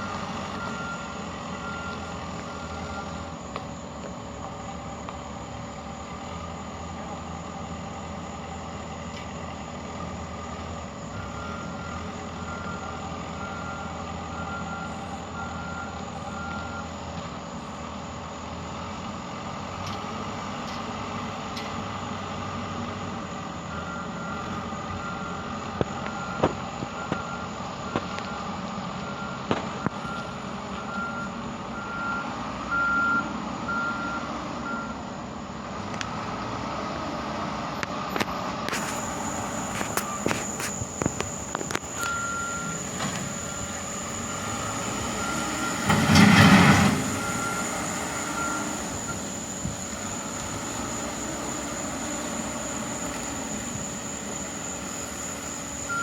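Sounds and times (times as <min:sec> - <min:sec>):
truck reversing alarm beeping: 0:00.0 - 0:36.6, 0:38.1 - 0:56.0
engine running: 0:00.0 - 0:56.0.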